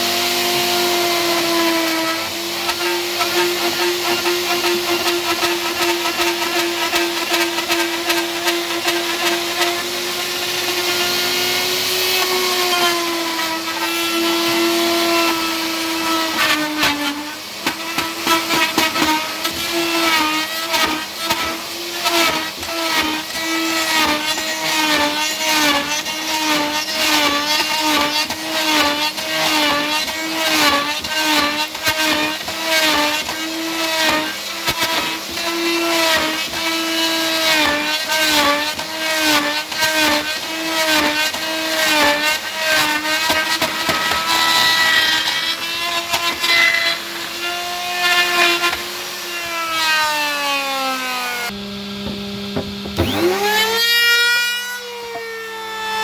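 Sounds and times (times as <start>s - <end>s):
power tool cutting into wood: 0.0s - 56.0s.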